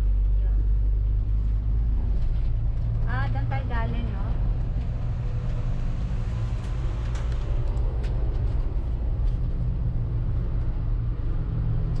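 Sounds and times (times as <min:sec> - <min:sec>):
road vehicle rumble: 0:00.0 - 0:12.0.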